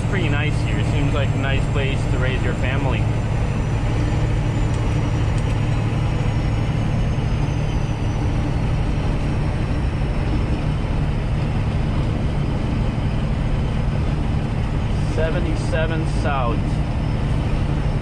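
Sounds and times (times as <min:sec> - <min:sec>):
diesel engine drone in cab: 0:00.0 - 0:18.0.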